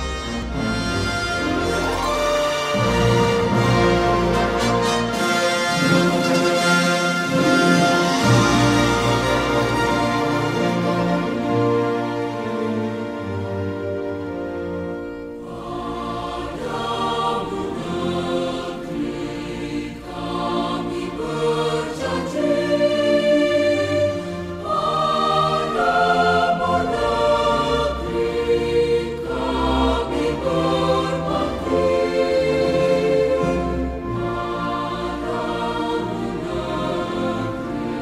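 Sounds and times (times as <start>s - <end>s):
choir singing slow chords: 0.0s - 38.0s.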